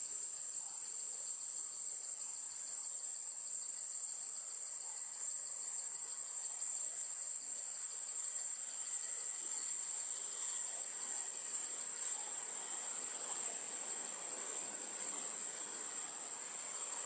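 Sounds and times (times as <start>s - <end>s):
insects buzzing in trees: 0.0s - 17.0s.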